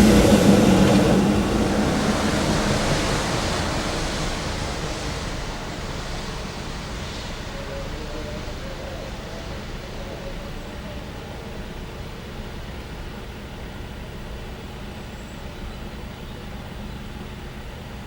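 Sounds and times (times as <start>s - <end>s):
low drone: 0.0s - 18.0s
train rumbling: 0.0s - 18.0s.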